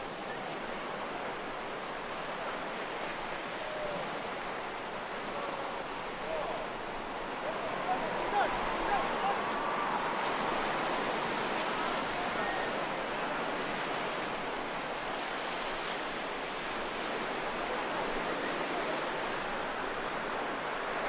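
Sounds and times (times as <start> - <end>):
sea surf washing on beach: 0.0 - 21.0.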